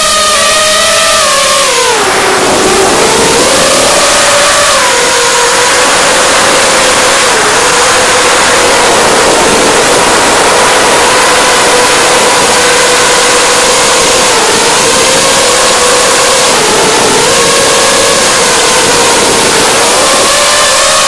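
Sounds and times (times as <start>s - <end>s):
drone motors whining: 0.0s - 21.0s
wind and propeller rush: 0.0s - 21.0s.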